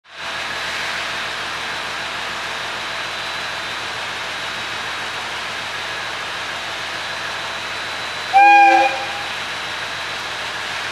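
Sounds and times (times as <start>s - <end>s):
idling train hum and hiss: 0.0s - 10.9s.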